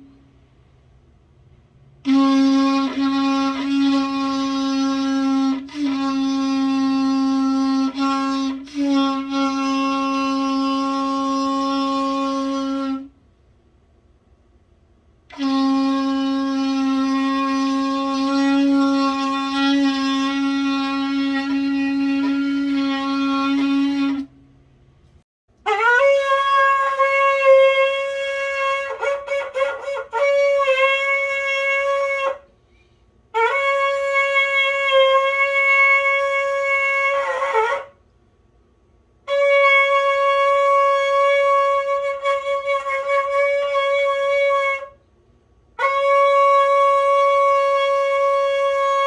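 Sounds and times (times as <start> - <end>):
shofar blowing: 2.0 - 13.2, 15.3 - 24.4, 25.6 - 38.1, 39.2 - 45.1, 45.7 - 49.0.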